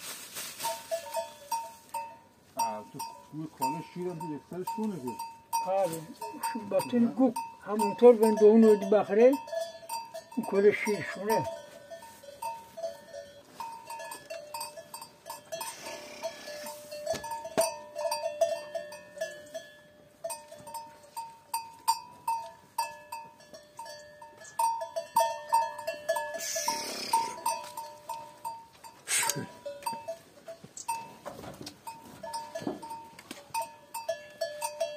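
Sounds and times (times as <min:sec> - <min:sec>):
cowbells clanking: 0:00.6 - 0:34.9.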